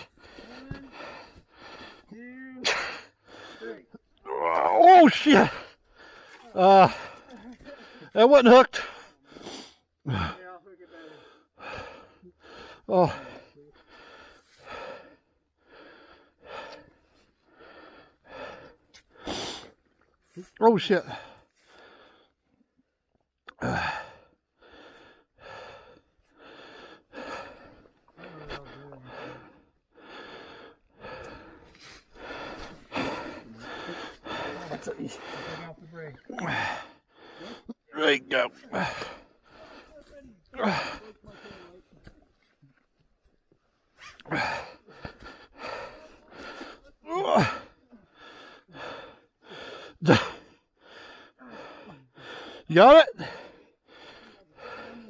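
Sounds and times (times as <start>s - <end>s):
person panting hard: 0.0s - 4.1s, 4.9s - 22.4s, 23.6s - 42.8s, 44.2s - 55.0s.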